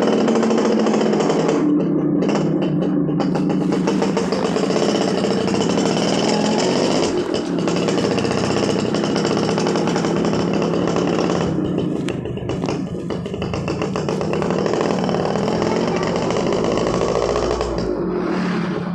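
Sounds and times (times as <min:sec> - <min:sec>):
two-stroke engine buzzing: 0:00.0 - 0:18.9.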